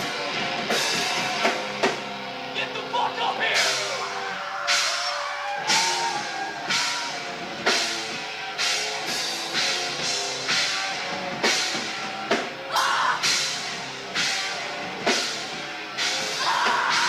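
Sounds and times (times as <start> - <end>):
drum kit: 0.0 - 17.0
guitar and bass notes: 0.0 - 17.0.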